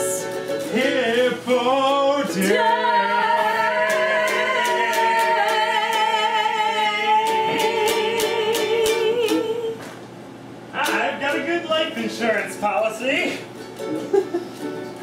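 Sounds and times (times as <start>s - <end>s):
strummed ukulele: 0.0s - 9.8s, 10.7s - 15.0s.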